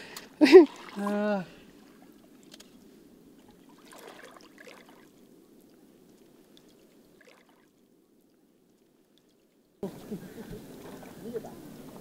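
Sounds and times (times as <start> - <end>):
low steady hiss: 0.0 - 12.0
soft wet trickling: 0.0 - 12.0.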